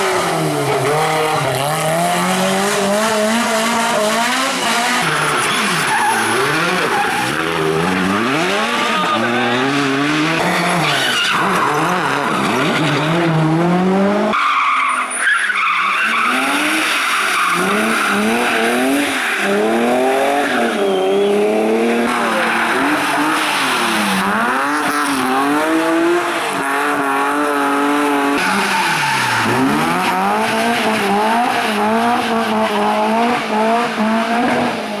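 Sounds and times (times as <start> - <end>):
rally car engines revving: 0.0 - 35.0.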